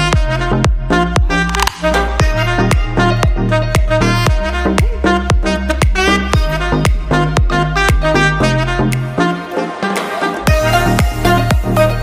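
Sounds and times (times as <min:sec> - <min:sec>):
dance music: 0:00.0 - 0:12.0.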